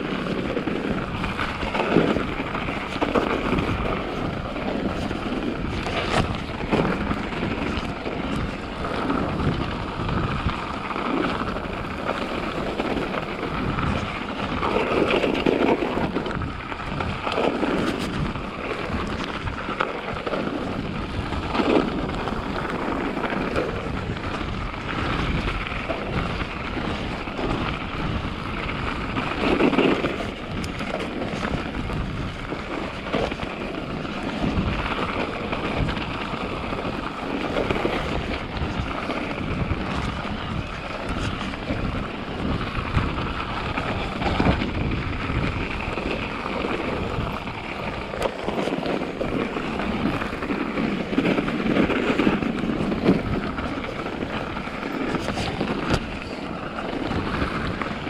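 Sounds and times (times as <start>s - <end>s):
tyres on snow: 0.0s - 58.0s
wind rumble on microphone: 0.0s - 58.0s.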